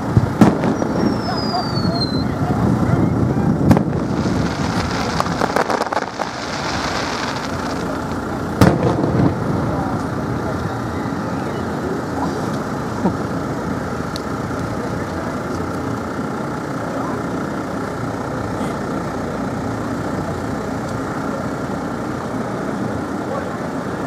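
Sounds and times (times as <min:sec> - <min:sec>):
murmur of crowd voices: 0:00.0 - 0:24.0.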